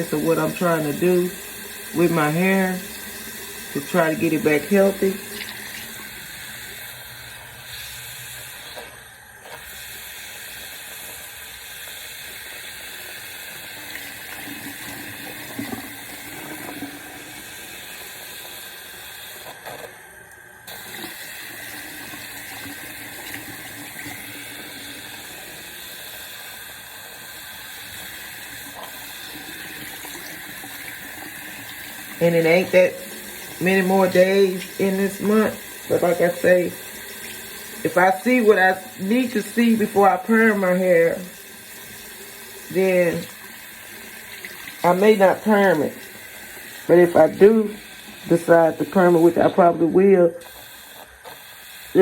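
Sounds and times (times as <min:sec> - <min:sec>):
tap water running into sink: 0:00.0 - 0:52.0.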